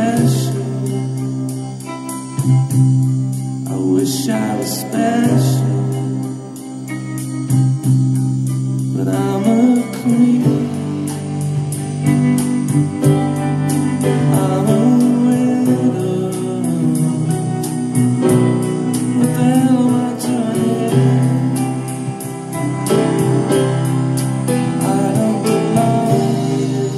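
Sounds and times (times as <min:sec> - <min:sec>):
song with vocals over a beat: 0:00.0 - 0:26.9.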